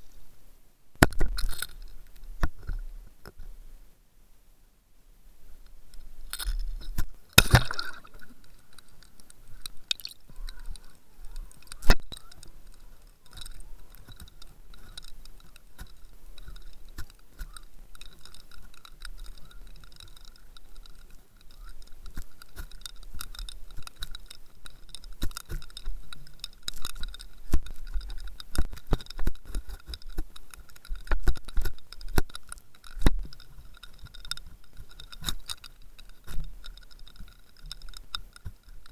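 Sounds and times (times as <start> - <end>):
underwater clicks and knocks: 1.0 - 3.4, 6.2 - 38.9.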